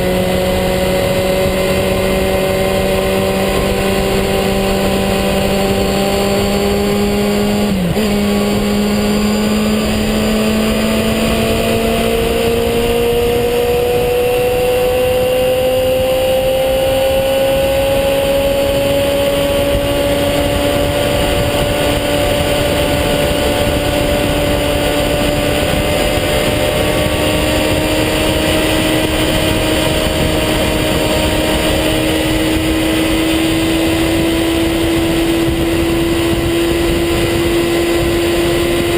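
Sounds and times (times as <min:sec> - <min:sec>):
vehicle engine accelerating: 0:00.0 - 0:38.9
wind rush on microphone: 0:00.0 - 0:38.9.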